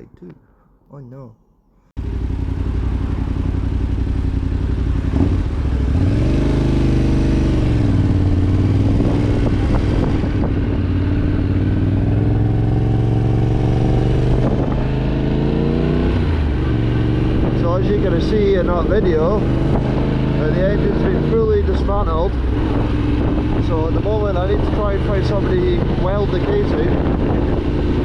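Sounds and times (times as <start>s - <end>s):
motorcycle engine running: 2.0s - 28.0s.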